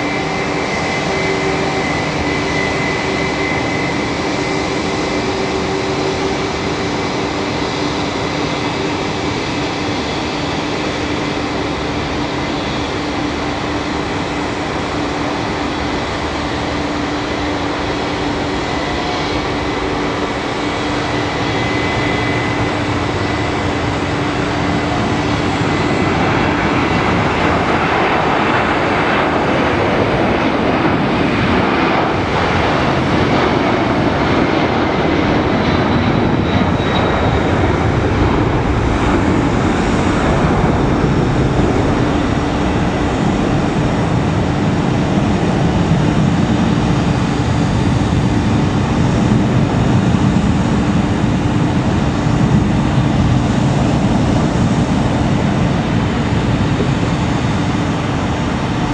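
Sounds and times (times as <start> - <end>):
faint high engine whine: 0.0 - 58.9
jet airliner taking off: 0.0 - 58.9.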